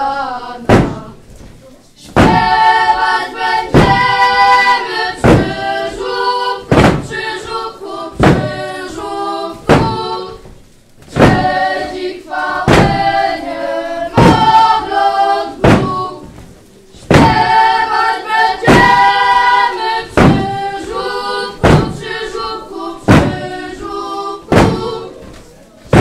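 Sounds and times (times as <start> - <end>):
children singing carol: 0.0 - 1.3, 2.0 - 26.0
heavy thumps on floor: 0.7 - 3.0, 3.6 - 12.0, 12.6 - 13.5, 14.1 - 17.8, 18.6 - 22.4, 23.0 - 23.8, 24.5 - 26.0.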